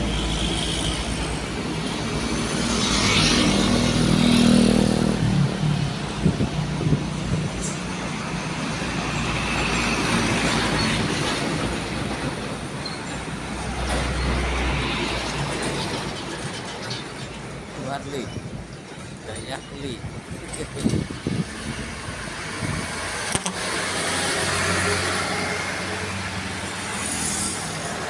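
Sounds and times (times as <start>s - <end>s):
passing traffic and engines: 0.0s - 28.0s.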